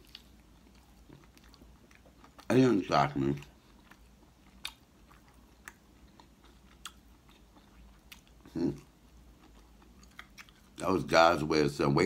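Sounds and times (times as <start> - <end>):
person chewing food: 0.0 - 10.9.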